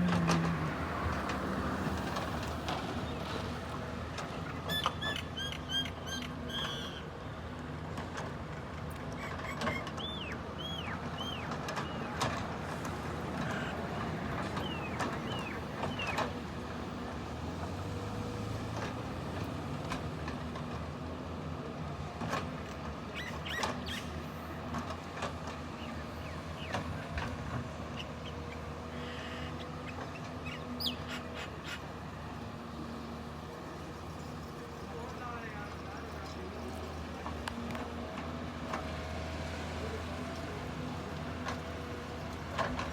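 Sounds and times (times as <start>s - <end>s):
excavator engine hum: 0.0s - 42.9s.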